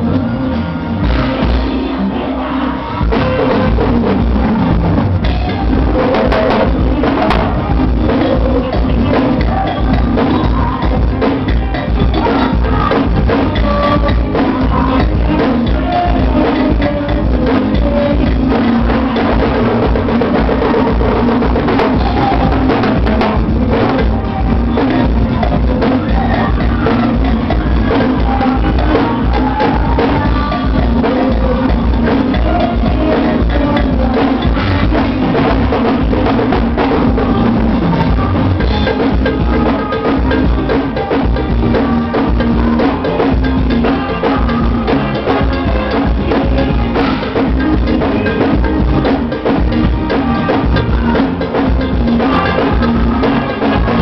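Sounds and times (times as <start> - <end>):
drum kit beat: 0.0 - 54.0
heavy bass: 0.0 - 54.0
live band music: 0.0 - 54.0.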